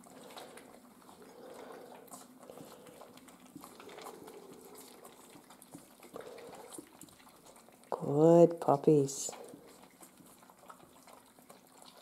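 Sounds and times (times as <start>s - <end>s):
puppies crunching kibble: 0.0s - 12.0s.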